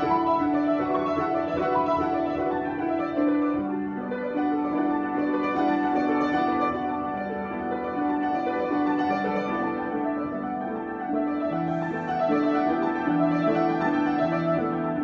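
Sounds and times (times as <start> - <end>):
piano bass line: 0.0 - 15.0
piano sustained notes: 0.0 - 15.0.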